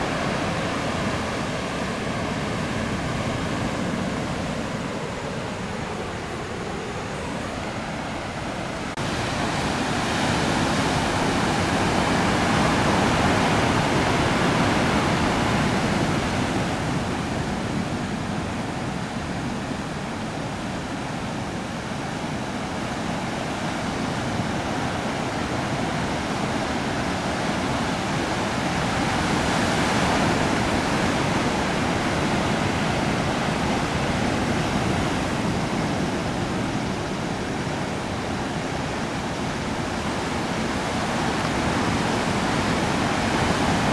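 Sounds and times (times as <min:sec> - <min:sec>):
waves breaking: 0:00.0 - 0:43.9.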